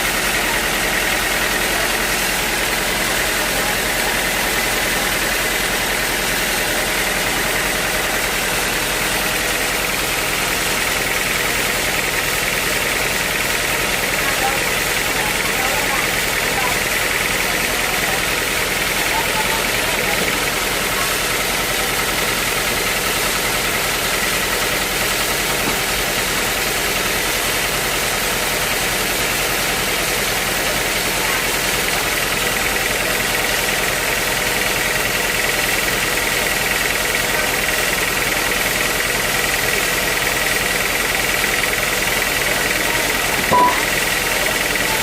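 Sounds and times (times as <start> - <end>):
sawmill machinery drone: 0.0 - 45.0.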